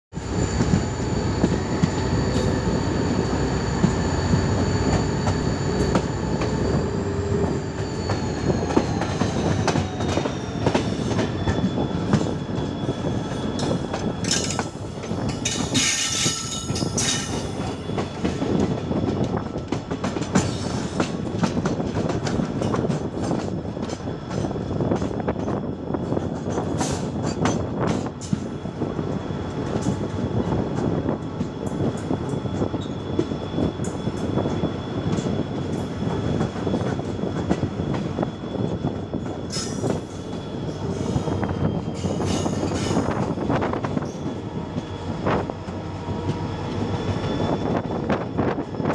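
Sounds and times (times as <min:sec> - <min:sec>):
train rumbling at speed: 0:00.1 - 0:48.9.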